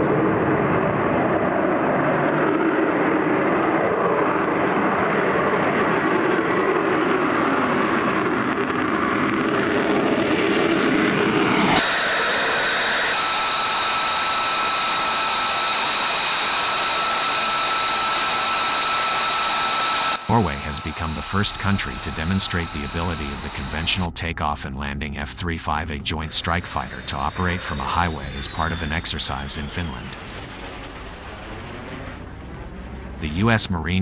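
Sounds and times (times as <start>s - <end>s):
jet engine whine on ground: 0.0s - 24.4s, 25.2s - 34.0s
jet engine roar: 0.0s - 34.0s.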